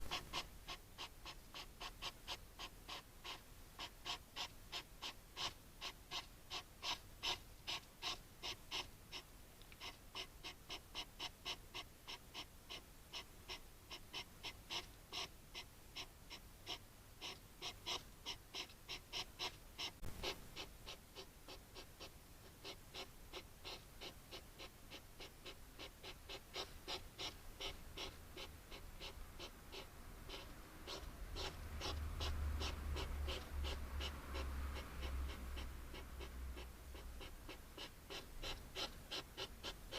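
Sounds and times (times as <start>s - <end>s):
hedgehog huffing: 0.0s - 39.9s.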